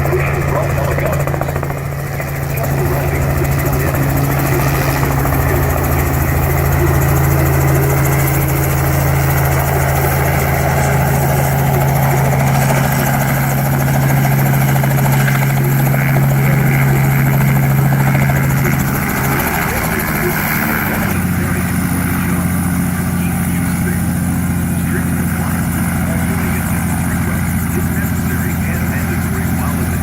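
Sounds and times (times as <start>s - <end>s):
helicopter rotor and engine hum: 0.0s - 30.0s.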